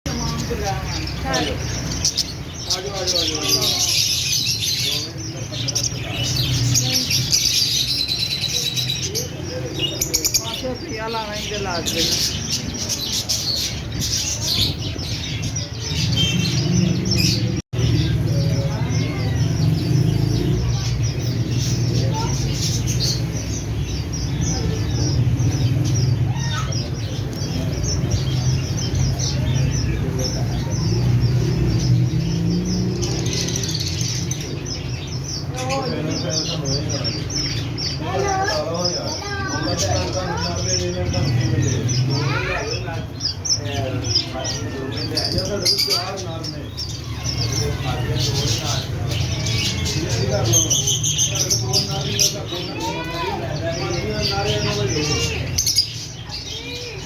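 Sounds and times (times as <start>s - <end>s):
baby birds chirping: 0.0s - 57.0s.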